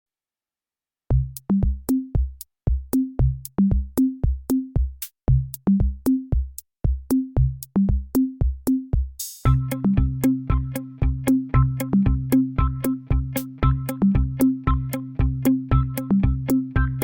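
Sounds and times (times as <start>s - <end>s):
electronic drum-machine beat: 1.1s - 17.0s.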